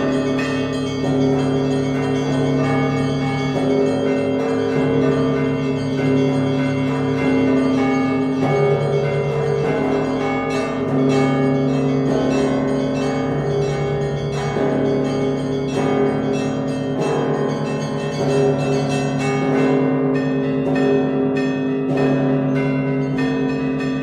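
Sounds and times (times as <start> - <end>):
deep church bell striking: 0.0 - 24.0
small bells ringing rhythmically: 0.0 - 24.0.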